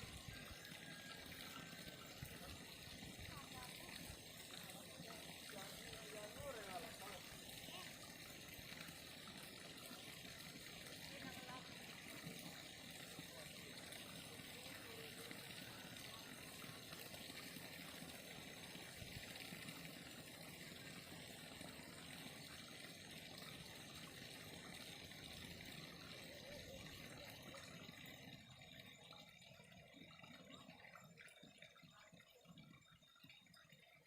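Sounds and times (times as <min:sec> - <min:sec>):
faint stream water flowing: 0:00.0 - 0:34.0.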